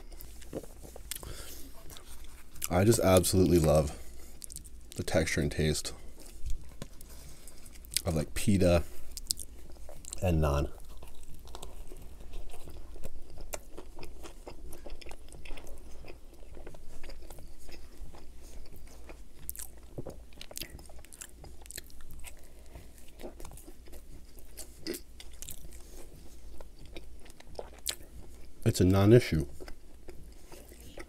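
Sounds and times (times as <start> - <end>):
biting and chewing food: 0.0 - 5.2, 5.9 - 31.0.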